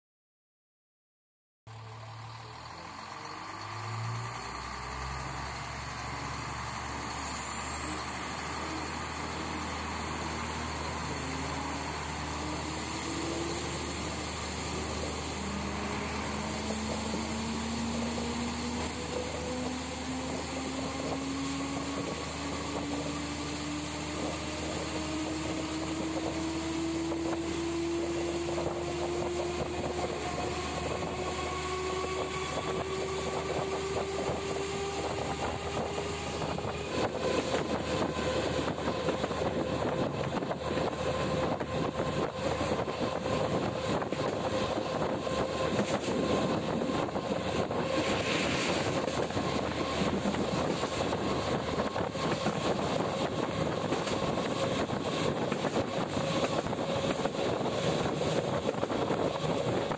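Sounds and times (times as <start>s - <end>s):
train engine hum: 1.7s - 59.9s.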